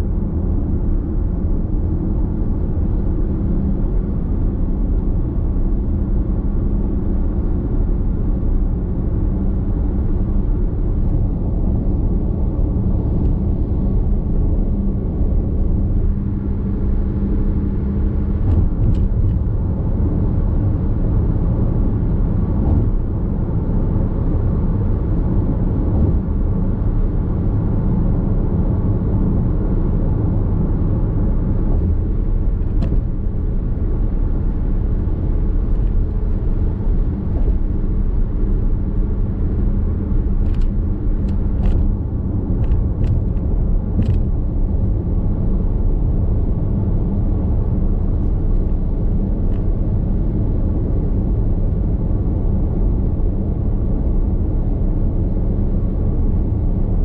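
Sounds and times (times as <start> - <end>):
road and tyre rumble in car: 0.0 - 57.0.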